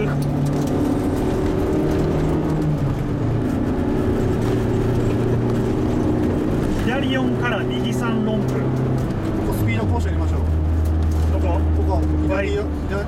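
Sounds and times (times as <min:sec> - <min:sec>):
car engine running: 0:00.0 - 0:13.0
tyre and road noise: 0:00.0 - 0:13.0.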